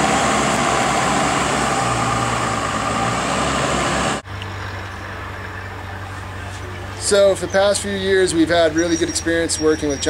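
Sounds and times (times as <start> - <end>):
motor vehicle engine hum: 0.0 - 10.0
road or wind noise: 0.0 - 10.0.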